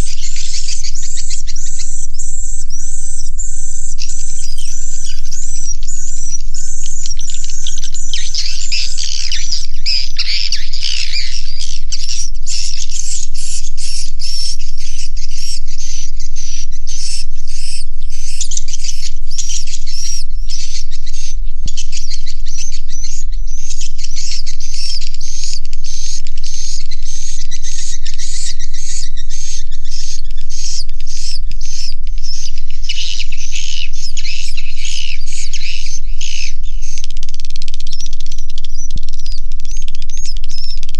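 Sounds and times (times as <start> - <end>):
flock of birds twittering: 0.0 - 40.8.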